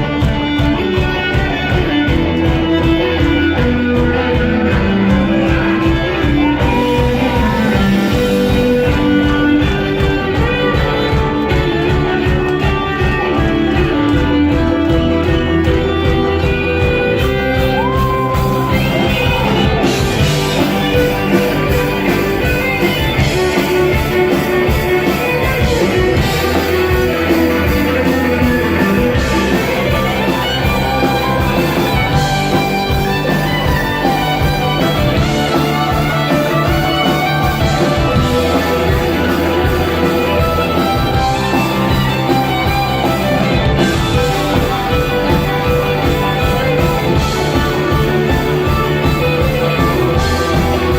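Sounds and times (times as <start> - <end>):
bass guitar: 0.0 - 50.9
drums: 0.0 - 50.9
electric guitar lead: 0.0 - 50.9.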